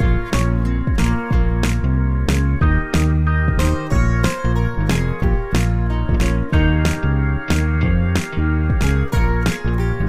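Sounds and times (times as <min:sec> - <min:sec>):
percussive hits: 0:00.0 - 0:09.9.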